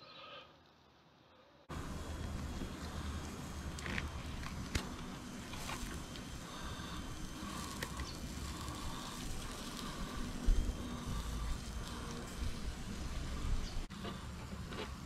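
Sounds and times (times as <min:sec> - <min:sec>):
faint meat sizzle: 0:01.7 - 0:13.9.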